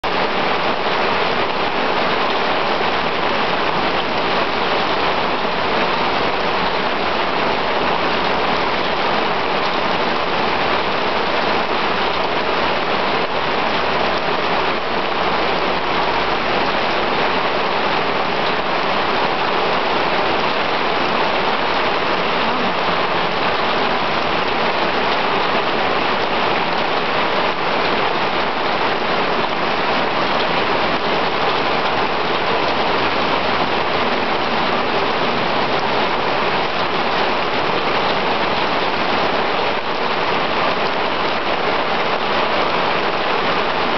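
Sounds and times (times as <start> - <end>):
heavy rain on cobblestones: 0.0 - 43.9.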